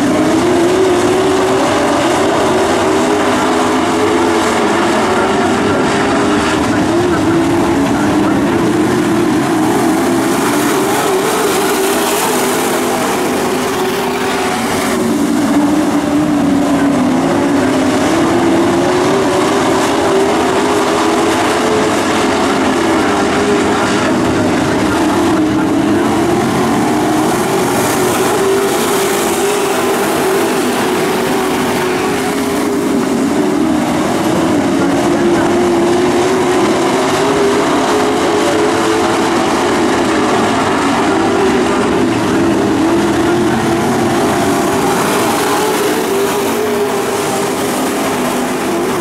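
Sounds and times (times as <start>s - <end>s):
racing truck engines droning: 0.0s - 49.0s.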